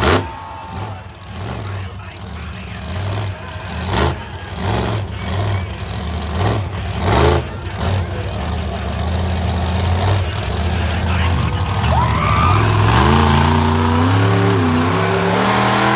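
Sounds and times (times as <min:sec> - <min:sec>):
truck engine revving: 0:00.0 - 0:15.9.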